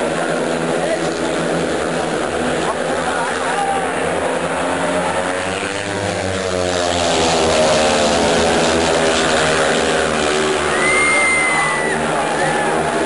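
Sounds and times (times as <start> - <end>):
motorcycle engines racing: 0.0 - 13.0.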